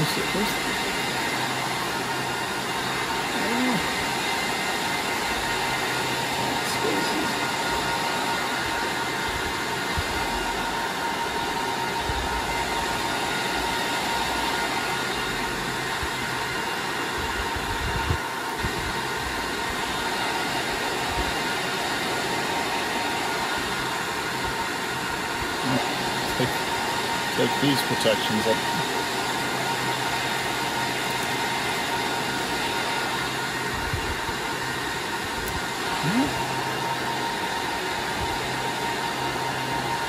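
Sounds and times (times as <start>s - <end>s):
cooling fans whirring: 0.0s - 40.0s.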